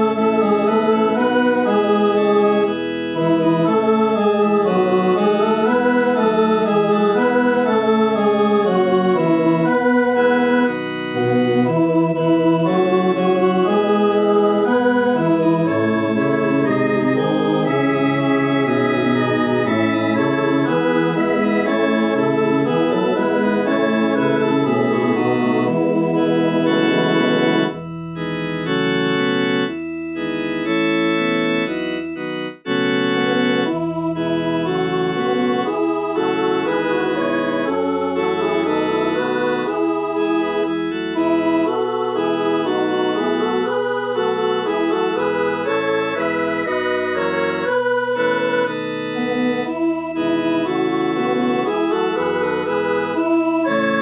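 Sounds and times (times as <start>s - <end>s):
synthesized organ-like choral chords: 0.0s - 54.0s.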